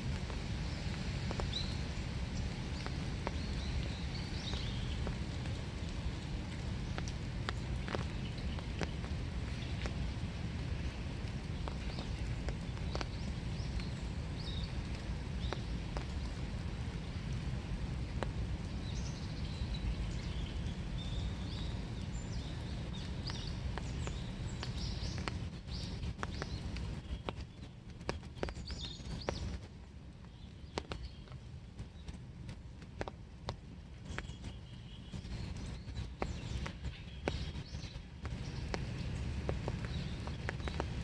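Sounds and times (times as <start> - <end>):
rain falling steadily: 0.0 - 41.0
sharp drip ticks: 0.0 - 41.0
small birds chirping: 0.2 - 41.0.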